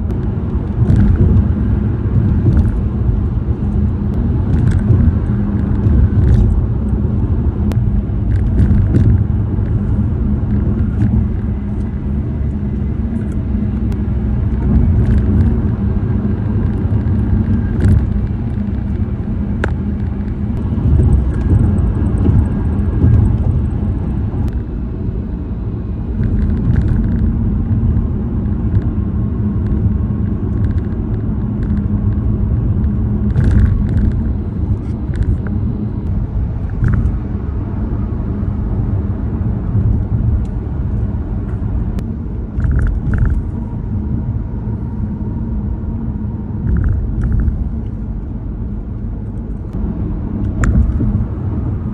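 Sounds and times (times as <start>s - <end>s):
tyres rumbling on road: 0.0s - 51.9s.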